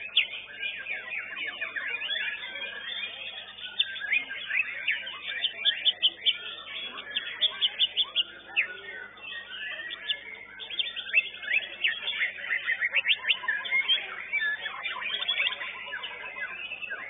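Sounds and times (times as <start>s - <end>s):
birds singing chirps and whistles: 0.0s - 17.0s.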